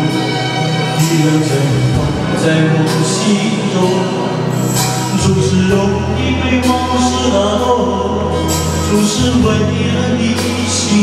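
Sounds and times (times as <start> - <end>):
pop ballad backing track: 0.0 - 11.0
man singing into a microphone: 0.9 - 11.0.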